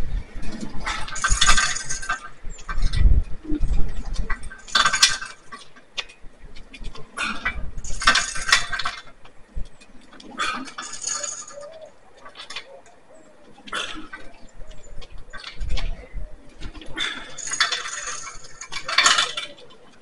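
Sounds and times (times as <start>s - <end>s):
metal sled clinking and rattling: 0.3s - 20.0s.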